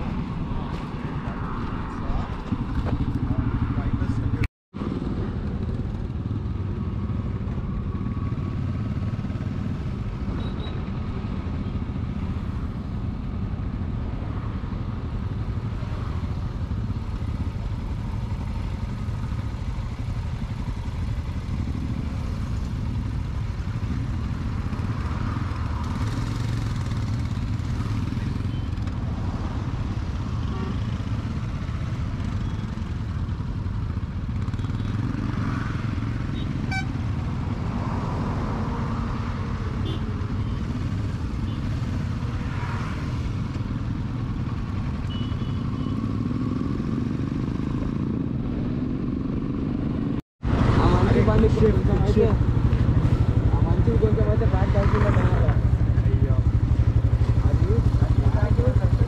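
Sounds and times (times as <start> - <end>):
motorcycle running: 0.0 - 59.0.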